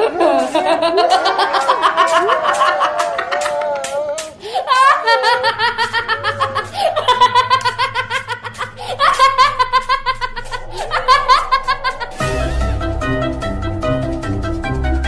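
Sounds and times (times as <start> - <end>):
high-pitched cackling laughter: 0.0 - 12.6.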